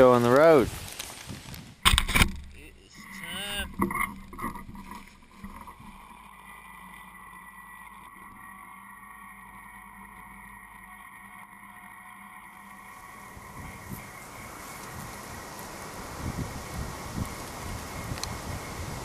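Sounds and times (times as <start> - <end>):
lawnmower engine humming: 0.0 - 19.0.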